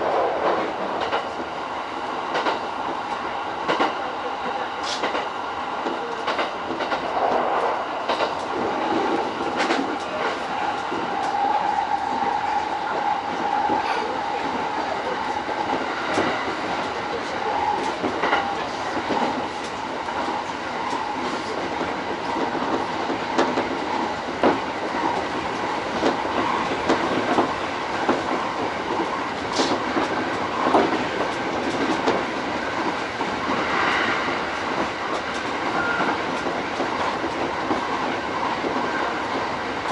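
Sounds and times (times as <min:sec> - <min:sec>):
electric train rumble: 0:00.0 - 0:39.9.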